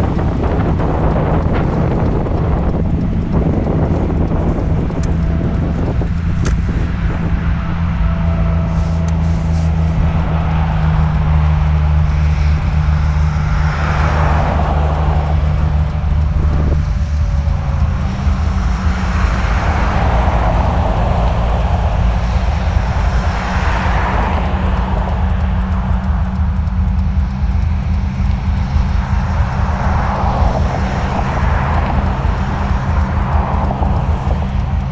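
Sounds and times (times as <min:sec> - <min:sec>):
car engine running: 0:00.0 - 0:34.9
rushing noise: 0:00.0 - 0:34.9.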